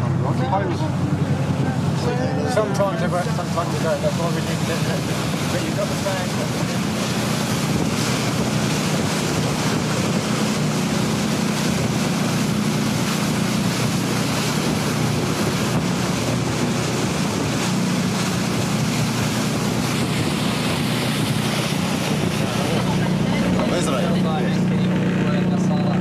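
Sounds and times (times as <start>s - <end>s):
boat engine droning: 0.0s - 26.0s
wind and water rushing: 0.0s - 26.0s
wind buffeting microphone: 0.0s - 26.0s.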